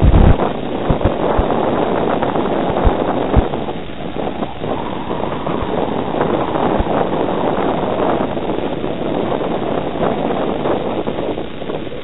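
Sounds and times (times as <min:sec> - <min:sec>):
low bumps: 0:00.0 - 0:10.3
wind buffeting microphone: 0:00.0 - 0:12.0.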